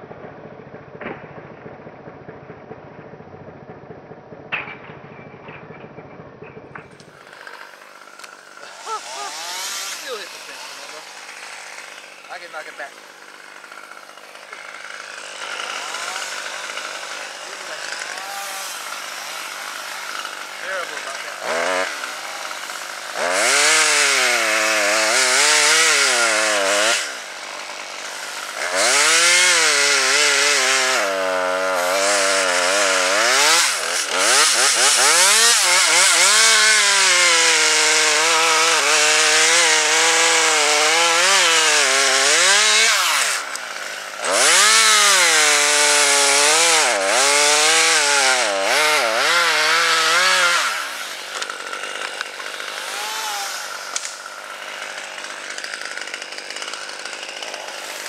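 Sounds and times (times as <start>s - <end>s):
chainsaw cutting wood: 6.8s - 58.0s.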